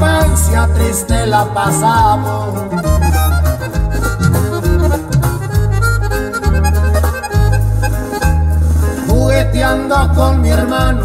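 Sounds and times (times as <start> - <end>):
accordion melody: 0.0 - 11.0
bass line: 0.0 - 11.0.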